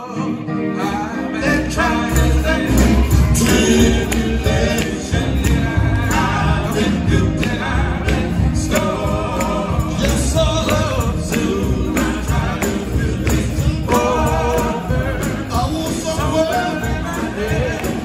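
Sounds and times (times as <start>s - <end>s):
electric guitars: 0.0s - 18.0s
male gospel group singing: 0.0s - 18.0s
drums keeping a steady beat: 2.2s - 18.0s.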